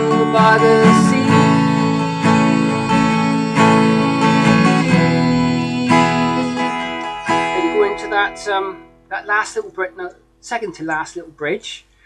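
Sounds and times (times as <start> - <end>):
acoustic guitar strumming: 0.0 - 10.4.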